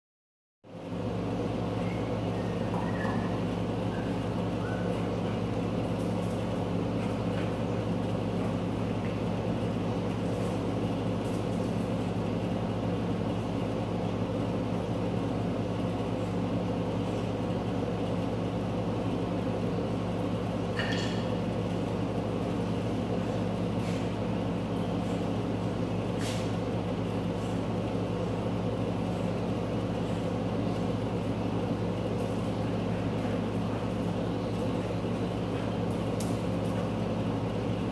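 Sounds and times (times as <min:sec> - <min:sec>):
low mechanical hum: 0:00.6 - 0:37.9.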